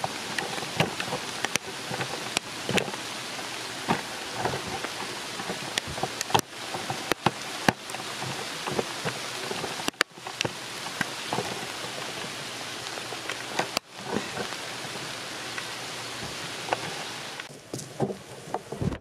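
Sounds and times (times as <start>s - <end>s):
heavy rain pouring: 0.0s - 19.0s
raindrops tapping: 0.0s - 19.0s.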